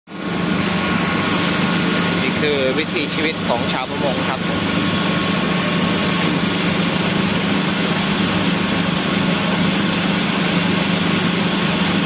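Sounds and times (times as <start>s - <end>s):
small boat engine running: 0.1s - 12.0s.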